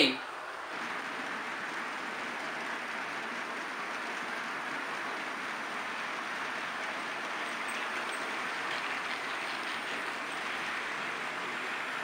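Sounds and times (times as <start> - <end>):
model train rolling on rails: 0.4 - 12.0.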